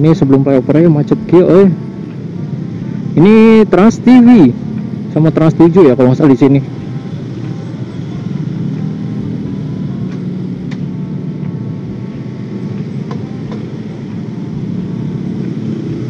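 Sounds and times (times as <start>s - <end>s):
motorcycle engine drone: 0.0s - 16.0s
surrounding traffic: 0.0s - 16.0s.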